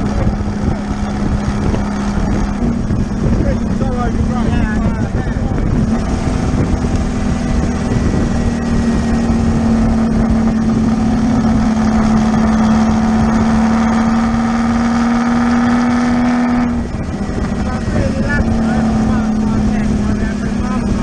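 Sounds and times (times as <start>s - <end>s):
car engine droning: 0.0s - 21.0s
road and wind noise: 0.0s - 21.0s.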